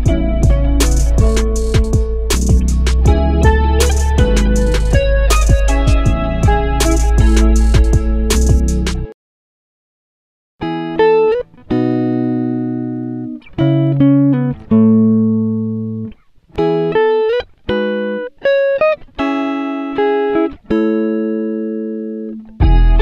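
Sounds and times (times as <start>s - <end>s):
guitar plucking notes and chords: 0.0s - 9.1s, 10.6s - 23.0s.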